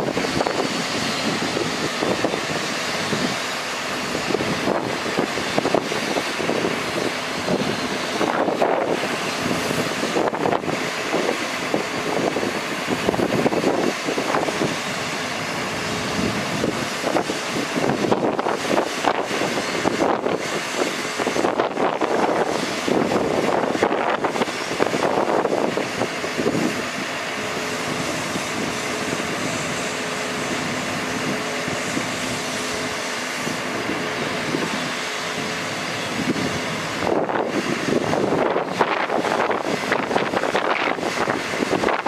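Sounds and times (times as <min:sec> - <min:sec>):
diesel truck engine running: 0:00.0 - 0:42.0
wind buffeting microphone: 0:00.0 - 0:42.0.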